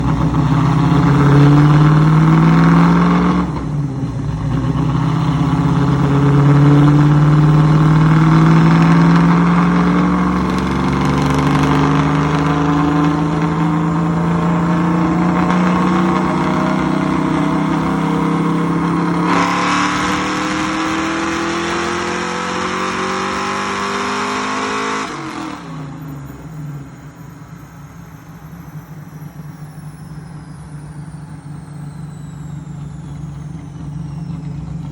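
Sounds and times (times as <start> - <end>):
car engine at full throttle: 0.0 - 34.9.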